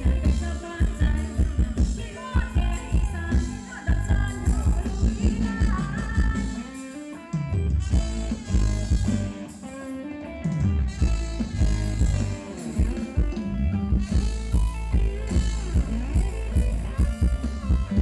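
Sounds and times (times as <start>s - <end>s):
prominent bass: 0.0s - 6.6s, 7.6s - 9.5s, 10.5s - 18.0s
live band playing dance music: 0.0s - 18.0s.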